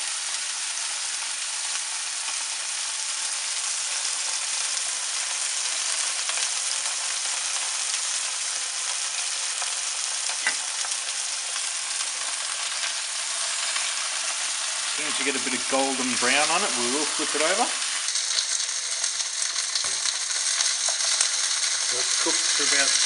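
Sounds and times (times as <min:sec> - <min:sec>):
meat sizzling in oil: 0:00.0 - 0:23.0.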